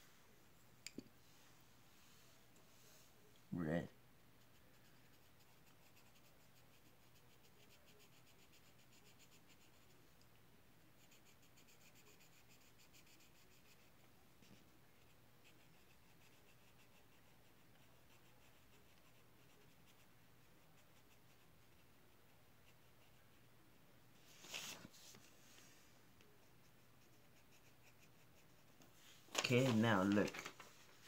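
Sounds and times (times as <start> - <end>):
coloring strokes scratching paper: 4.4 - 10.0, 10.9 - 23.5, 24.2 - 31.0.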